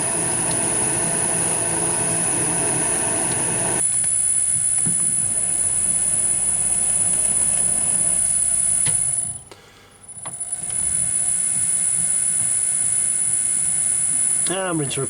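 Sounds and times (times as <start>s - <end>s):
metal lathe whining: 0.0s - 3.8s, 4.6s - 9.4s, 10.2s - 14.9s.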